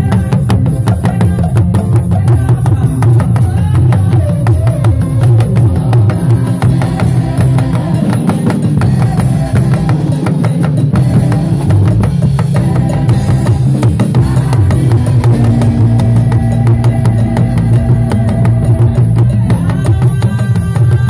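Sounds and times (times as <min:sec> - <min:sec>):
live church band music: 0:00.0 - 0:21.0
talking drum struck with stick: 0:00.0 - 0:21.0.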